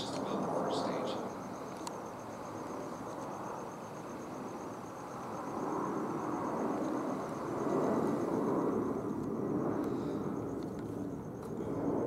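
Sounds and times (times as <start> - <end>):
cricket chirping: 0.0 - 12.0
low background noise: 0.0 - 12.0.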